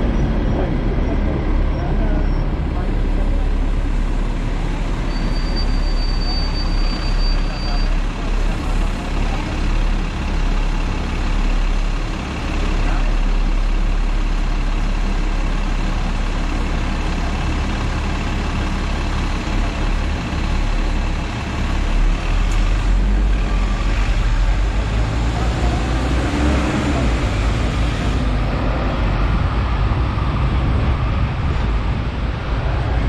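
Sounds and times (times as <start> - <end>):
street traffic: 0.0 - 33.0
tram rumbling: 0.0 - 33.0.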